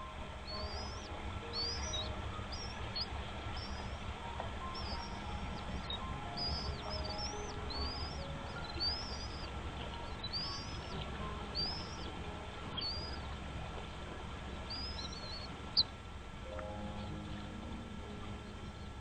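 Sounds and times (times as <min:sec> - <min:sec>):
bird chirping: 0:00.0 - 0:19.0
low background hum: 0:00.0 - 0:19.0.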